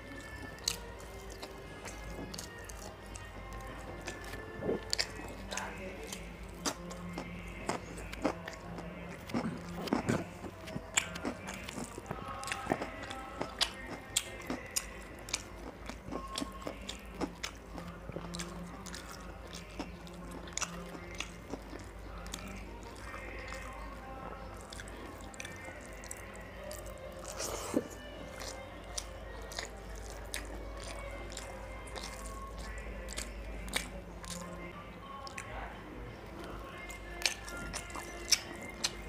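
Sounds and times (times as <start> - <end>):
chewing and lip smacks: 0.0 - 39.0.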